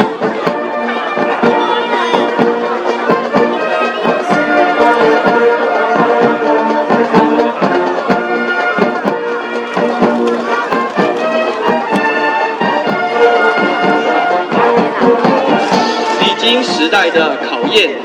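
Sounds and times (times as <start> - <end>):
brass band march: 0.0 - 18.0
steady drum beat: 0.0 - 18.0.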